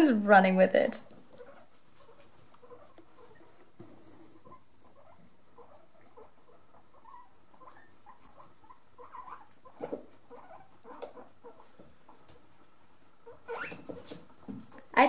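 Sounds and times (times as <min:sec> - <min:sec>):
guinea pigs chewing lettuce: 0:00.0 - 0:14.8.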